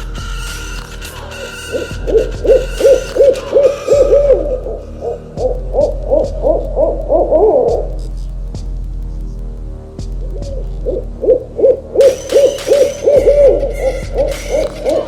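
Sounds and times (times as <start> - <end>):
owl hooting: 0.7 - 8.2, 10.2 - 15.0.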